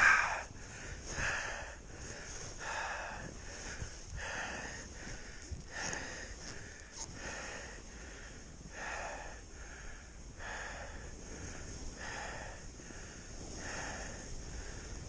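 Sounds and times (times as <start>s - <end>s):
person breathing hard and fast: 0.0s - 15.0s.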